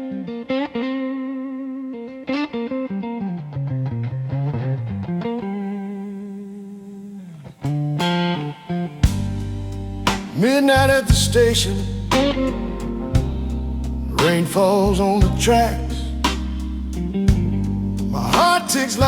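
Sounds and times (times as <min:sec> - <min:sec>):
electric guitar with effects: 0:00.0 - 0:19.0.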